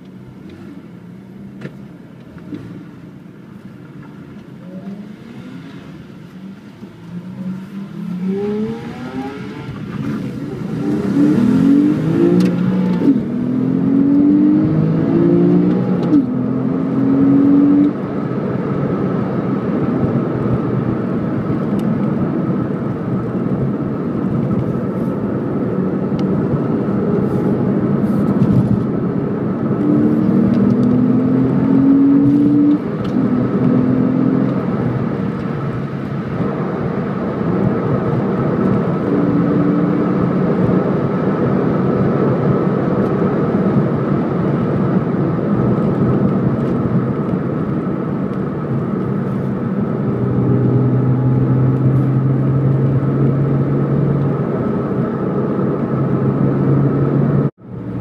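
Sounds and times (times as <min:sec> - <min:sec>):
car engine accelerating from inside: 0:00.0 - 0:58.0.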